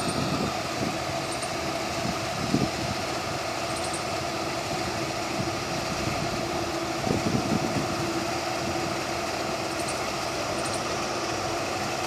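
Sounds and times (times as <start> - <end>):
combine harvester droning: 0.0 - 12.0.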